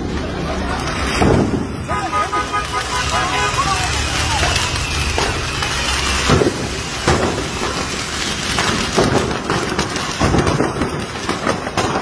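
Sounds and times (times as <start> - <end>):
fireworks crackling: 0.0 - 12.0
loud fireworks bangs: 0.0 - 12.0.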